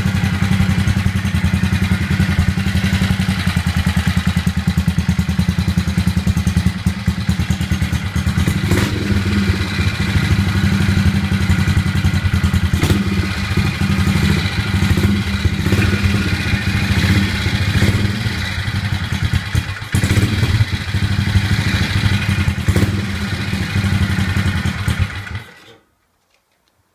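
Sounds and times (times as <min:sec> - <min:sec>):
motorcycle engine running: 0:00.0 - 0:25.7.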